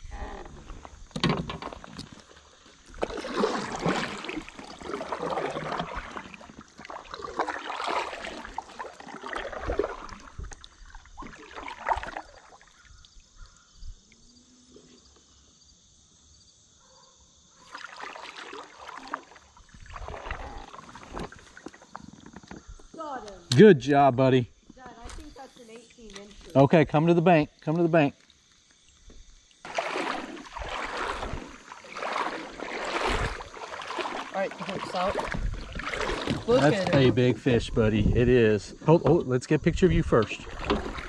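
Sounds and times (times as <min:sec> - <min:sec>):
water swishing around kayak: 0:00.0 - 0:15.3, 0:17.5 - 0:23.4, 0:24.6 - 0:41.0.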